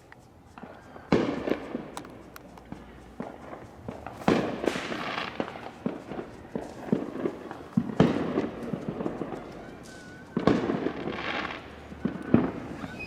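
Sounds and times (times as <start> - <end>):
firecrackers popping: 0.0 - 13.0
fireworks crackling: 0.0 - 13.0
fireworks bangs: 0.5 - 13.0.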